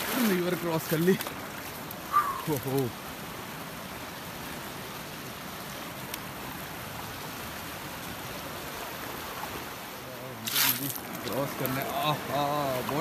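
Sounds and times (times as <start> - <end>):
mountain river rushing: 0.0 - 13.0.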